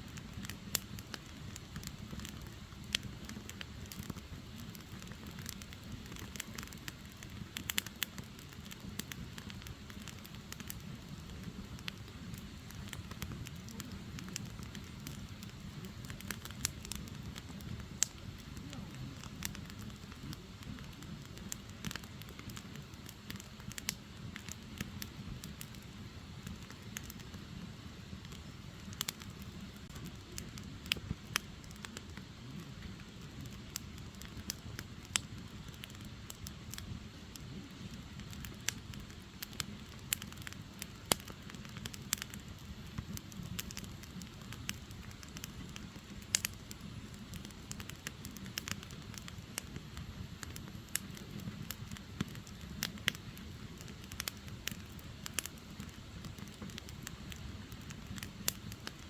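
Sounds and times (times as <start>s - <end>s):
logs crackling and popping: 0.0s - 59.0s
low fire rumble: 0.0s - 59.0s.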